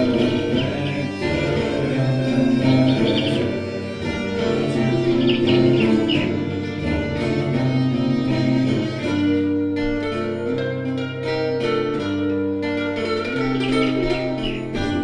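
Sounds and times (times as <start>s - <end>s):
low sustained bass: 0.0s - 15.0s
slow string-like notes: 0.0s - 15.0s.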